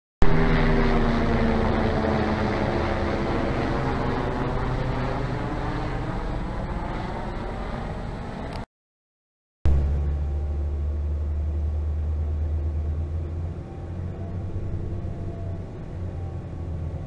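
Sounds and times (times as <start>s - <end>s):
helicopter engine and rotor: 0.2s - 8.7s, 9.7s - 17.0s.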